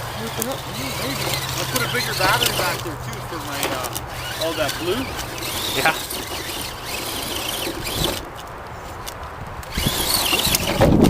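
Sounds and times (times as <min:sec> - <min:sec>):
toy truck motor whining: 0:00.0 - 0:11.0.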